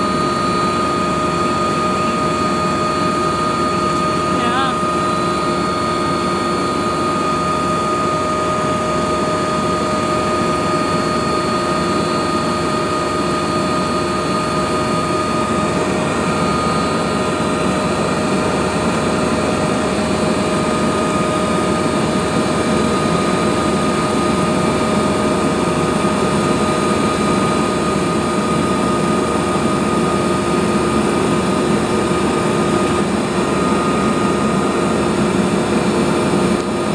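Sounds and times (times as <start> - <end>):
helicopter rotor drone: 0.0 - 36.9
turbine whine: 0.0 - 36.9.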